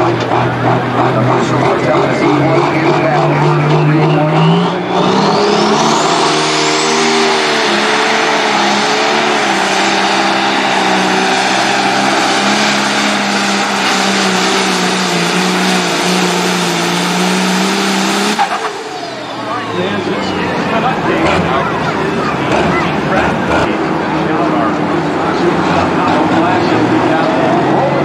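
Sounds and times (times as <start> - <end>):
tractor engine at full power: 0.0 - 28.0.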